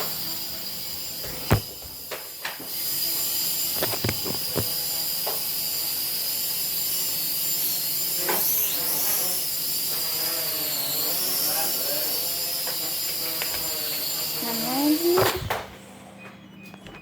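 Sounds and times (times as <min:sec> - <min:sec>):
toy drone propellers whining: 0:00.0 - 0:15.7.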